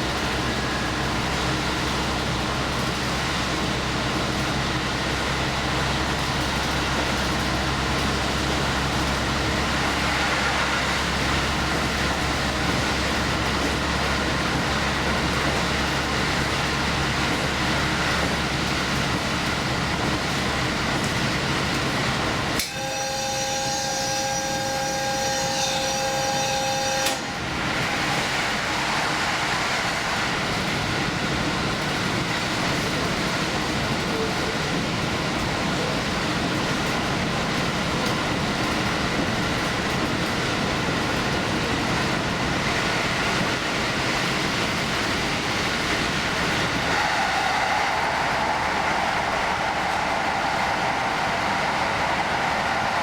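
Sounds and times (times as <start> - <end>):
train rumbling drone: 0.0 - 53.0.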